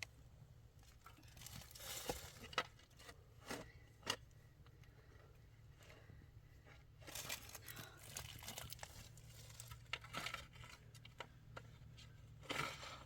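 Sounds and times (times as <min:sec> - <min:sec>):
rustling and crinkling: 0:00.8 - 0:04.4, 0:05.7 - 0:13.0.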